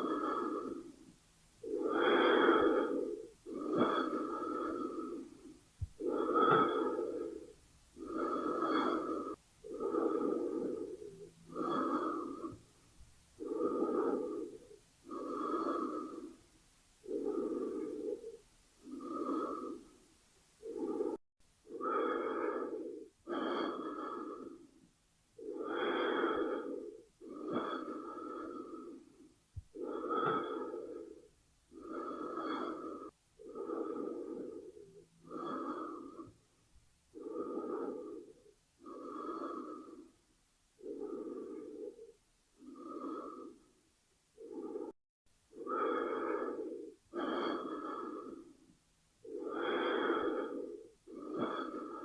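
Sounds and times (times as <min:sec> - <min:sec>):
person breathing: 0:00.0 - 0:52.0.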